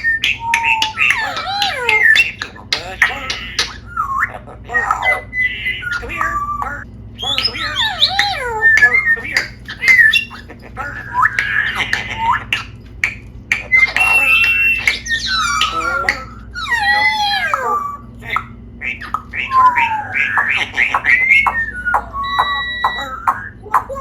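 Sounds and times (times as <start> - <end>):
parrot whistling and squawking: 0.0 - 24.0.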